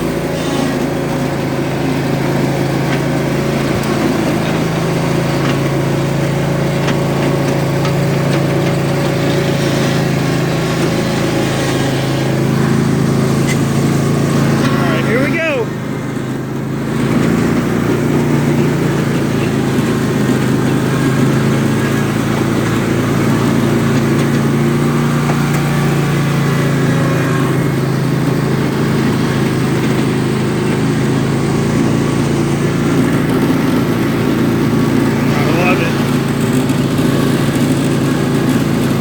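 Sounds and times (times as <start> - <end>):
riding lawn mower engine running: 0.0 - 39.0.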